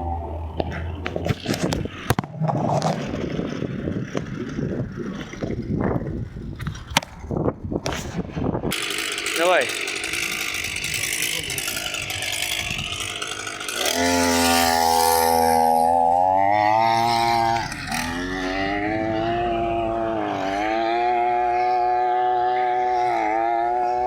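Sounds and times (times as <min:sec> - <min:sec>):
two-stroke engine buzzing: 0:00.0 - 0:06.6, 0:08.0 - 0:24.0.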